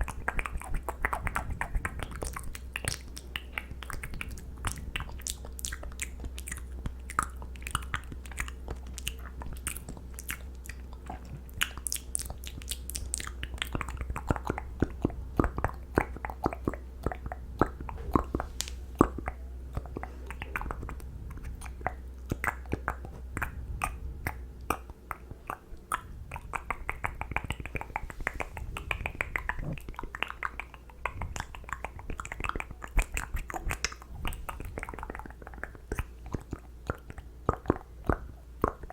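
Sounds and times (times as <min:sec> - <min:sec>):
low steady hum: 0:00.0 - 0:38.9
wet lip and tongue clicks: 0:00.0 - 0:38.9.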